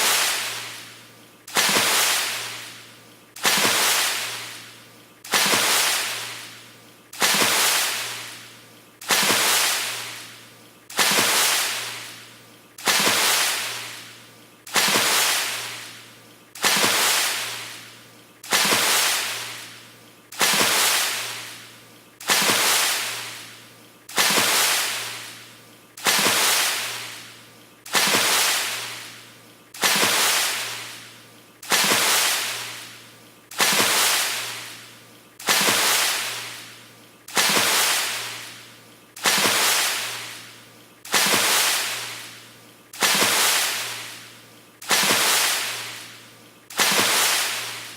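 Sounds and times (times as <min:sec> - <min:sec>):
water splash: 0:00.0 - 0:00.9, 0:01.5 - 0:02.8, 0:03.4 - 0:04.7, 0:05.3 - 0:06.6, 0:07.2 - 0:12.2, 0:12.8 - 0:16.0, 0:16.6 - 0:25.4, 0:26.0 - 0:29.2, 0:29.8 - 0:40.5, 0:41.1 - 0:42.4, 0:43.0 - 0:47.9.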